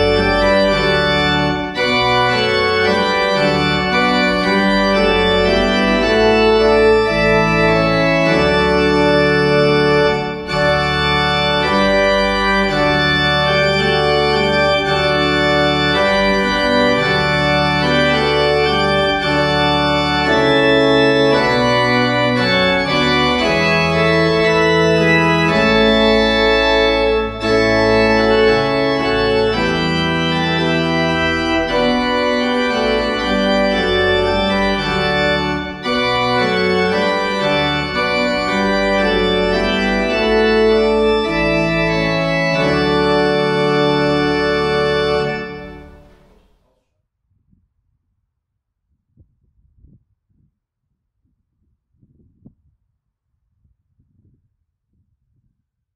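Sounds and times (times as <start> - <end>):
pipe organ playing chords: 0.0 - 46.6.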